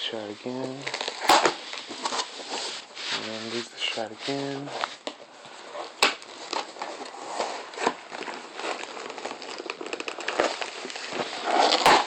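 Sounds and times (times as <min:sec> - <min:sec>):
packaging rustling and crinkling: 0:00.1 - 0:12.0.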